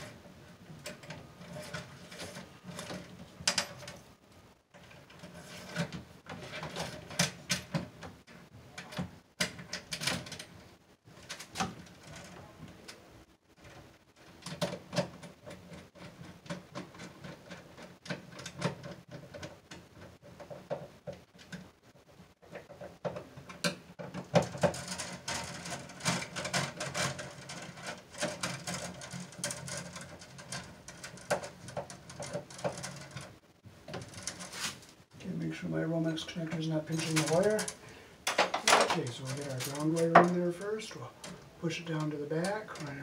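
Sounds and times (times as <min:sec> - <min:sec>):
cable clicking and scraping: 0:00.0 - 0:04.1, 0:04.7 - 0:13.0, 0:13.6 - 0:35.0, 0:36.1 - 0:43.0.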